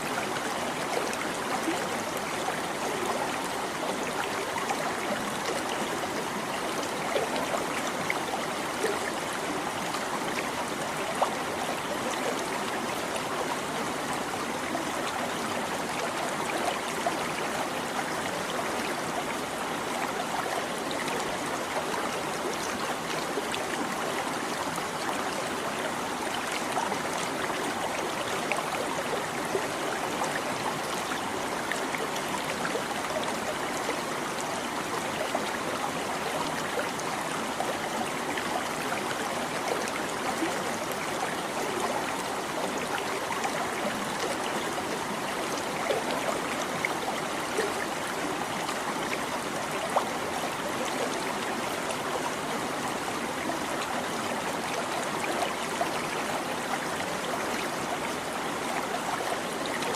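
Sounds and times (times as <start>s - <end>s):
babbling stream: 0.0s - 59.9s.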